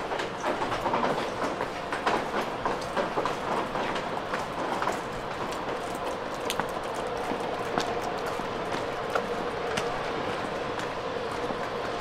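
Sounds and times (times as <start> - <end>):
train wheel clicks and knocks: 0.0 - 9.9.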